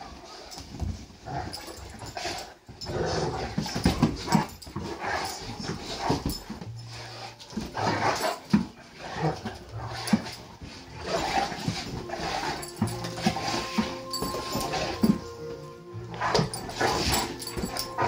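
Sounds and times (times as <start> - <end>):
dogs growling and grunting: 0.0 - 18.0.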